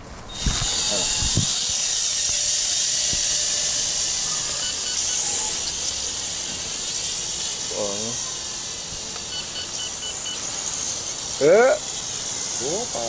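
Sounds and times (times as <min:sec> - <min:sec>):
quadcopter motors whirring: 0:00.3 - 0:13.0.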